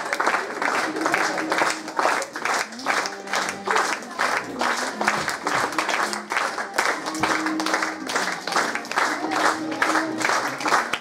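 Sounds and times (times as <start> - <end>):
audience clapping in rhythm: 0.0 - 11.0.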